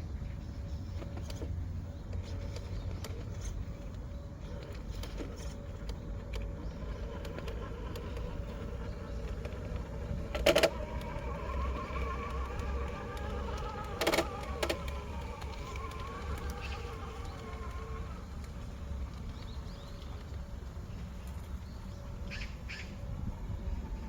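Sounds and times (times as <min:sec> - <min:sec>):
electric motor and gear whine: 0:00.0 - 0:24.0.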